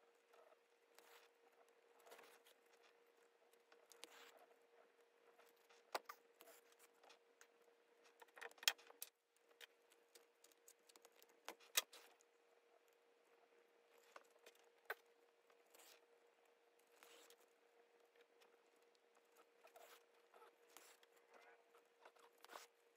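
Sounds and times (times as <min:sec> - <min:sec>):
faint steady hum: 0:00.0 - 0:22.9
needle and thread through leather: 0:00.2 - 0:12.3, 0:13.9 - 0:16.2, 0:16.8 - 0:22.9.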